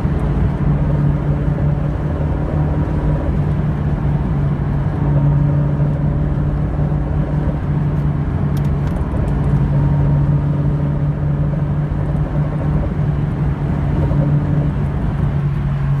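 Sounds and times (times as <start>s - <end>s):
road and engine noise: 0.0s - 16.0s.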